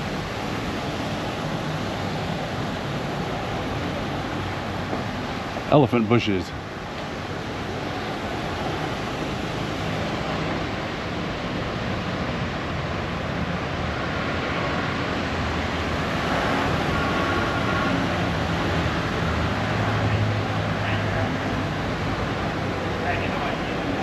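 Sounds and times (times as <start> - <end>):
road traffic rushing: 0.0 - 24.0.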